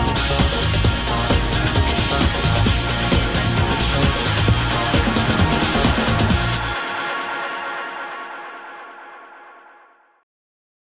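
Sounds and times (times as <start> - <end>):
background music: 0.0 - 10.2.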